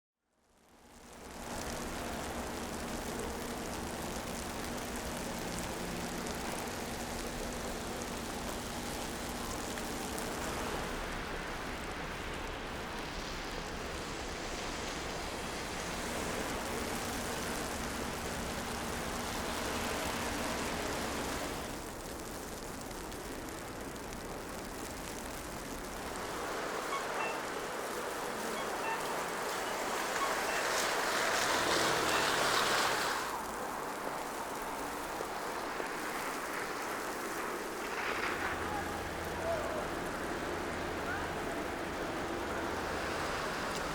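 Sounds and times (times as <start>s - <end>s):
traffic hiss: 0.7s - 43.9s.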